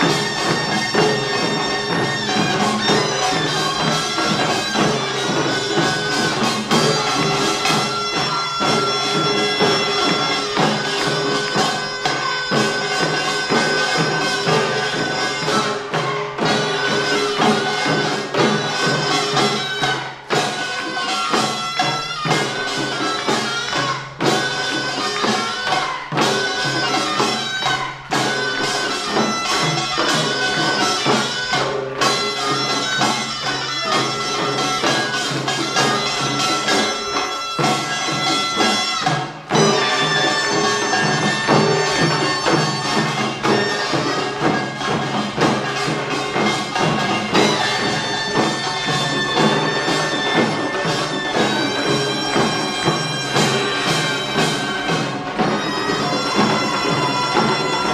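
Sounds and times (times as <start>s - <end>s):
fast hand drumming and percussion: 0.0s - 57.9s
shawm playing a held melody: 0.0s - 57.9s.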